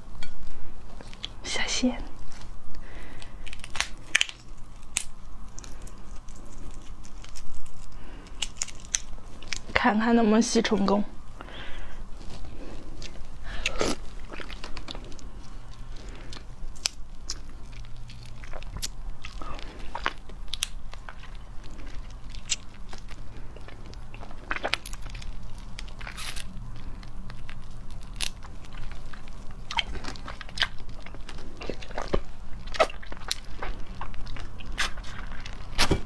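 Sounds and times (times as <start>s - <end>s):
prawn chewing with crisp crunches: 0.3s - 10.0s, 10.8s - 36.0s.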